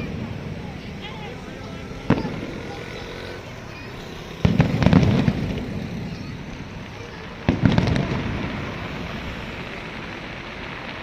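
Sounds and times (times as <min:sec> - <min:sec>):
fireworks booming: 0:00.0 - 0:11.0
sharp cracks: 0:01.9 - 0:11.0.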